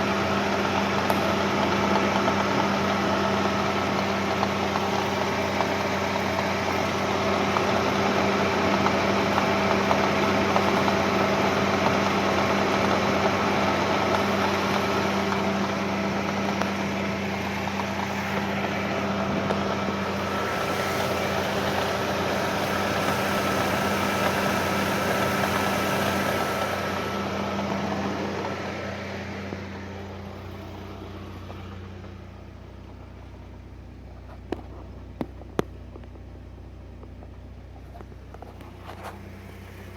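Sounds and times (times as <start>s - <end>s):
engine idling with a knock: 0.0s - 39.9s.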